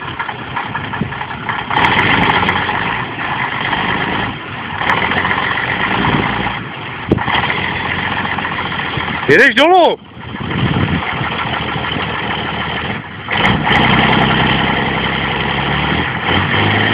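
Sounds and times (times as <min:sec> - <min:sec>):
diesel truck engine under load: 0:00.0 - 0:16.9.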